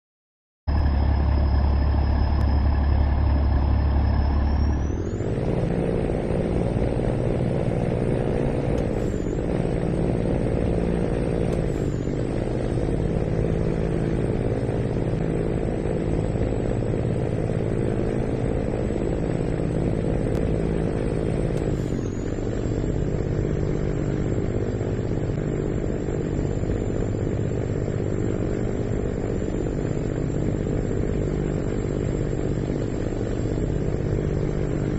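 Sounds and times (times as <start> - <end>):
diesel coach engine running: 0.7 - 34.9
high whine: 0.7 - 34.9.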